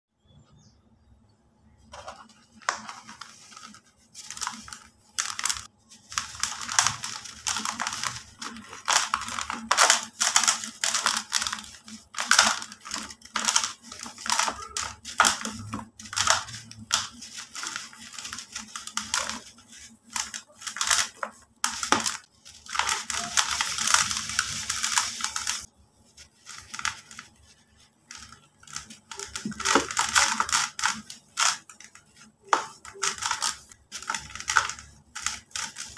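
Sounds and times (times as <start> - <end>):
grit pouring and sifting: 1.8 - 35.9.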